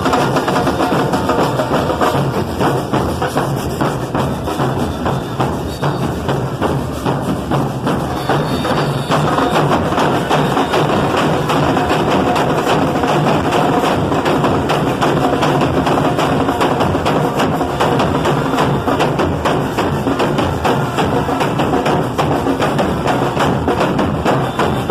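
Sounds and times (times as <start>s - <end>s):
band music with trumpets: 0.0s - 13.0s, 15.0s - 24.9s
driving drum beat: 0.0s - 24.9s.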